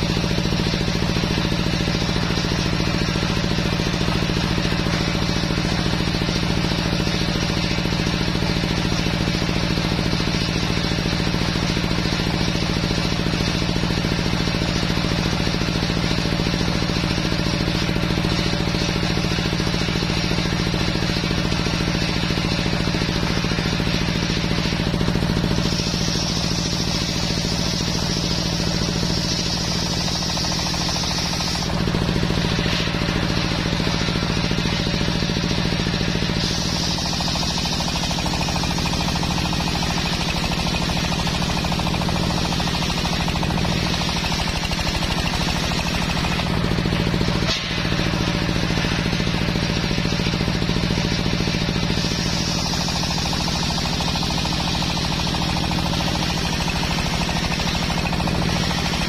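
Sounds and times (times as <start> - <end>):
circular saw cutting wood: 0.0 - 59.0
engine droning: 0.0 - 59.0.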